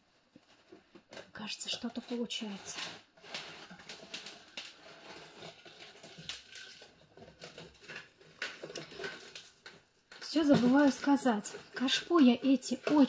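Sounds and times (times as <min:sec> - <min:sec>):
rustling and crackling of soil: 0:00.0 - 0:13.0.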